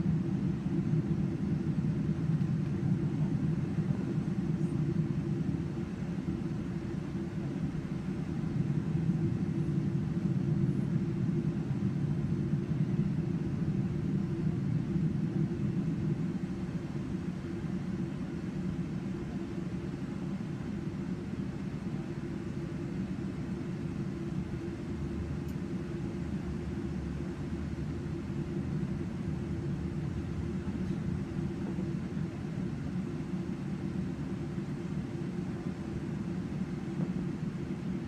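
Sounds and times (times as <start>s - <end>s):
airplane cabin low rumble: 0.0s - 38.0s.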